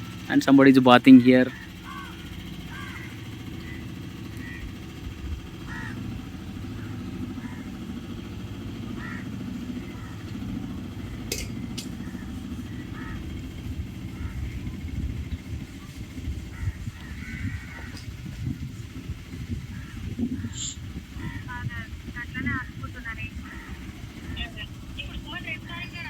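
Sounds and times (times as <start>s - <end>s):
boat motor droning: 0.0s - 26.0s.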